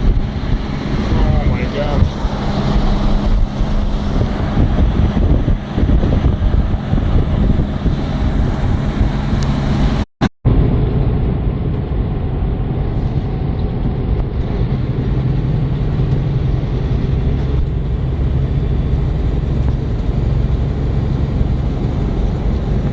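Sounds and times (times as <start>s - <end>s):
road noise: 0.0s - 22.9s
truck diesel engine drone: 0.0s - 22.9s.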